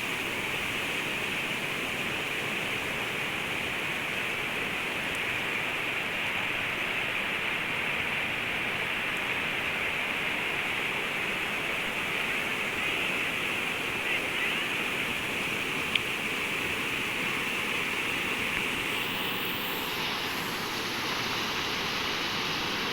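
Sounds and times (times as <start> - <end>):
floodwater rushing: 0.0 - 22.9.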